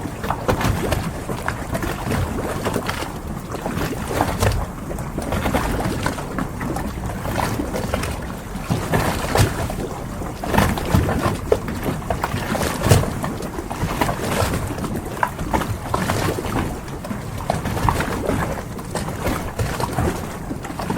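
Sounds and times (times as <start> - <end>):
low rumble of wind: 0.0 - 20.9
water lapping around boats: 0.0 - 20.9.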